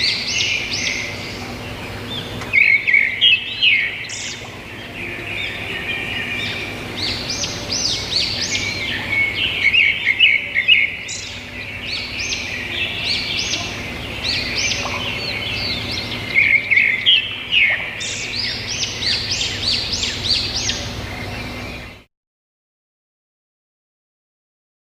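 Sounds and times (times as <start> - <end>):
songbirds chirping: 0.0 - 22.1.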